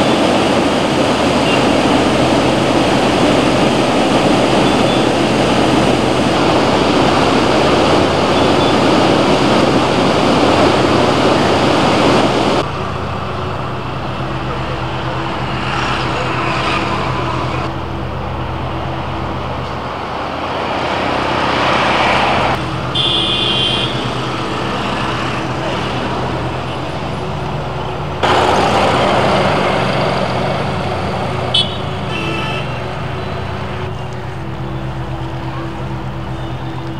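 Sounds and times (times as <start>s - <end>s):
river rushing over a weir: 0.0s - 17.7s, 18.5s - 36.9s
engine idling: 0.0s - 36.9s.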